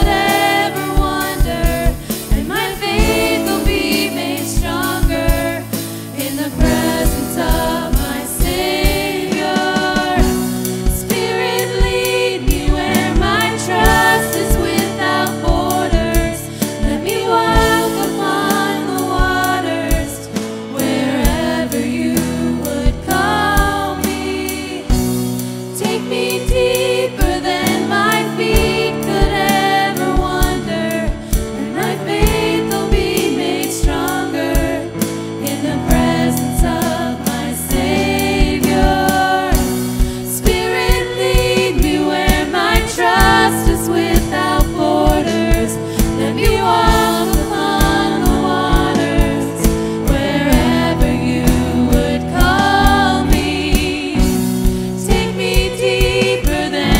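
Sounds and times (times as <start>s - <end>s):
band playing: 0.0s - 56.9s
people singing worship song: 0.0s - 56.9s
steady drum beat: 0.0s - 56.9s.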